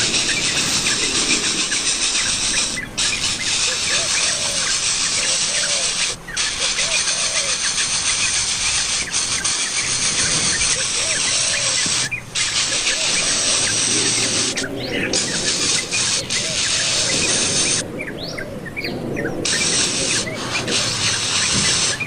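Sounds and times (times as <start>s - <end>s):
insect hiss: 0.0s - 17.8s, 19.4s - 22.0s
small bird squeaky chirps: 0.0s - 18.4s.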